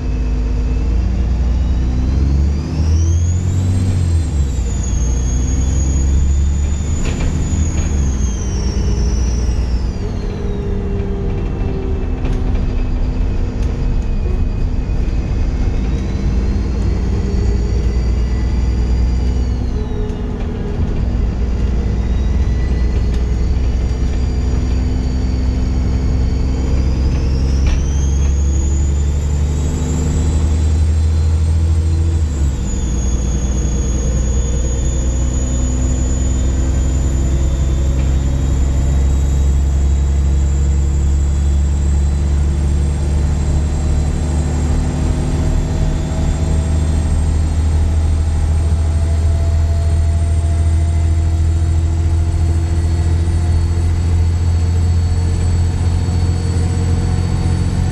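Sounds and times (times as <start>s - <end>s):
squealing turbo whistle: 0.0s - 12.1s, 12.7s - 57.9s
diesel bus engine rumble: 0.0s - 57.9s.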